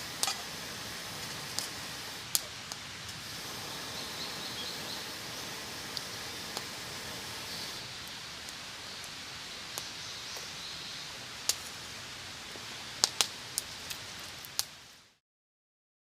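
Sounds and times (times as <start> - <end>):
wood fire crackling: 0.0 - 15.2.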